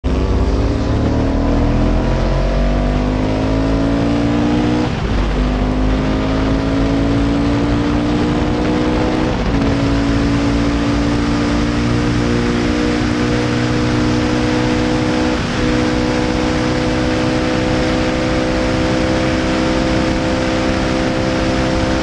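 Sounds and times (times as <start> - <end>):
racing engine accelerating: 0.0 - 22.0.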